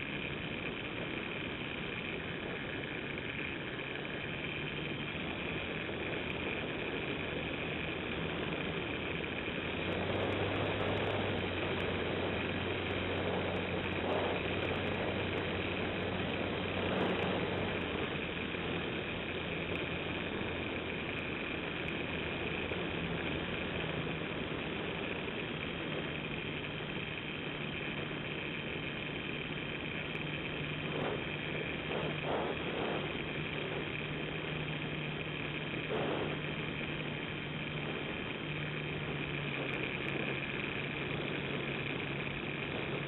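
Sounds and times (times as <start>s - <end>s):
model airplane motor and propeller: 0.0s - 43.0s.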